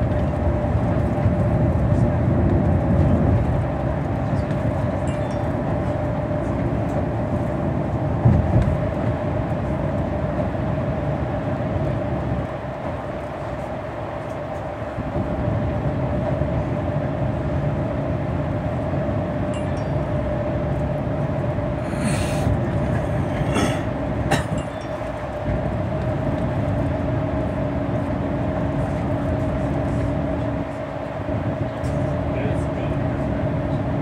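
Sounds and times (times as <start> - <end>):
bus engine and tyre noise: 0.0 - 34.0.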